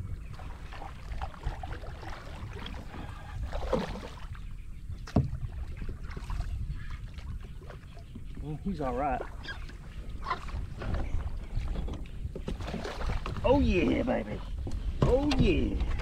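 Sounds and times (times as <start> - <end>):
water moving around kayak: 0.0 - 16.0
wind rumbling on microphone: 0.0 - 16.0.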